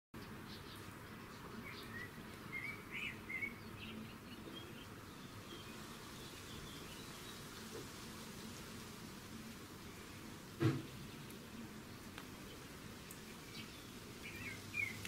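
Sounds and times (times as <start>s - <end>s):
outdoor background hiss: 0.2s - 15.0s
small birds chirping: 0.2s - 15.0s.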